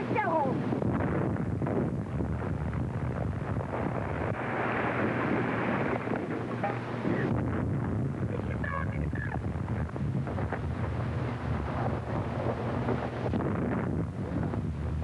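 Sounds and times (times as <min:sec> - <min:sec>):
noisy film soundtrack hiss: 0:00.0 - 0:15.0
artillery shellfire rumbling: 0:00.9 - 0:15.0.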